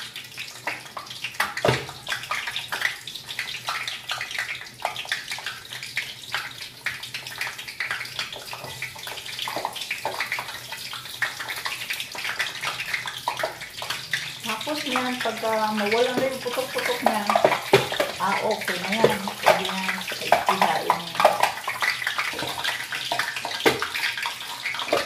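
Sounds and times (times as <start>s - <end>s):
oil sizzling: 0.0s - 25.0s
pork rinds popping in oil: 0.0s - 25.0s.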